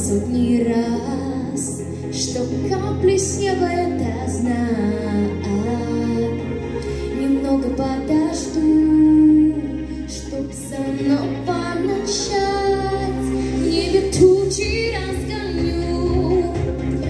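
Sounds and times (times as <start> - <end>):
backing track music: 0.0 - 17.0
woman singing pop song: 0.0 - 17.0.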